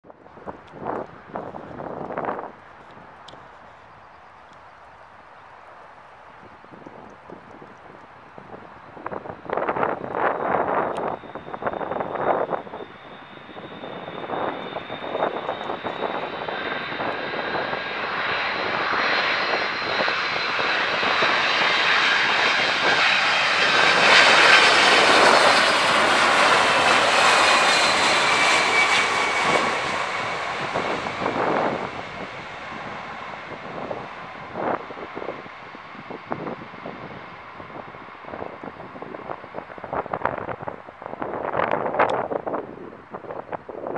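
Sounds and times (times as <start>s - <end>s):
jet engines passing overhead: 0.1s - 43.9s
wind buffeting microphone: 0.1s - 43.9s.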